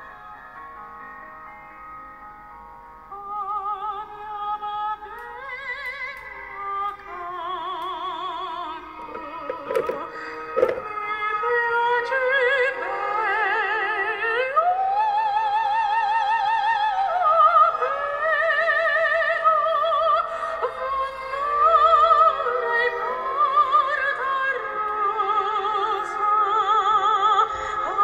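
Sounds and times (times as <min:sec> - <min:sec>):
woman singing opera: 0:03.1 - 0:28.0.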